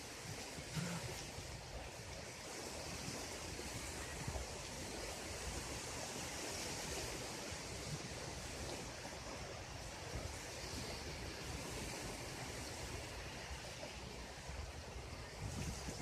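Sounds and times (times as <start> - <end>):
sea waves washing on beach: 0.0 - 16.0
wind buffeting microphone: 0.0 - 16.0.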